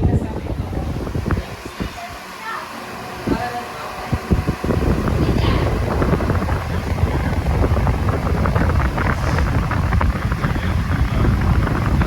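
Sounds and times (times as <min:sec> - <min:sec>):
fan wind buffeting microphone: 0:00.0 - 0:12.0.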